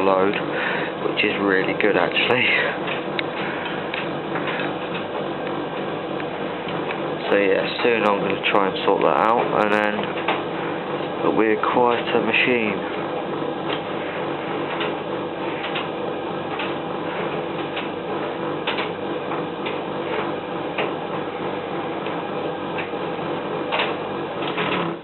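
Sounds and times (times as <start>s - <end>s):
tumble dryer humming: 0.0s - 25.0s.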